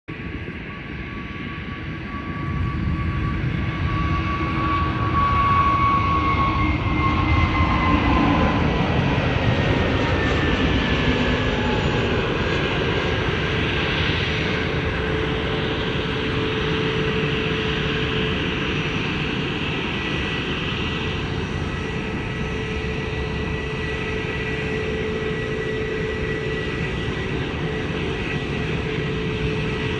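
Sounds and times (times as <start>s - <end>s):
airplane engines running: 0.1s - 29.9s.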